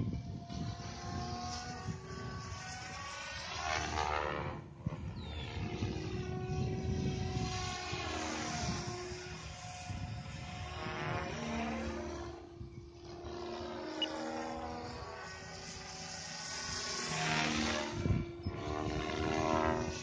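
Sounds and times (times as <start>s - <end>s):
model helicopter whine: 0.0s - 20.0s.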